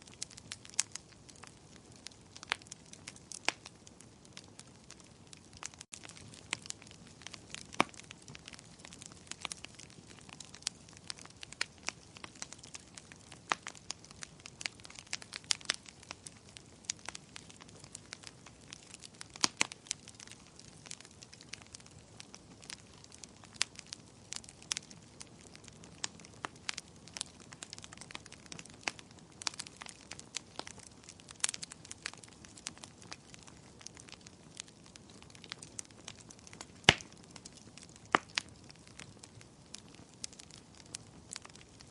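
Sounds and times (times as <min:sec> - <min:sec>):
faint hiss of flames: 0:00.0 - 0:41.9
wood fire crackling and popping: 0:00.0 - 0:41.9.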